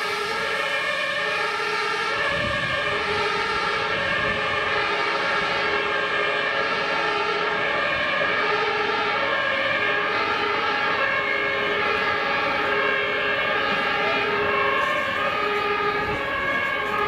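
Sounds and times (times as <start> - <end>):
two-tone emergency sirens: 0.0 - 17.0.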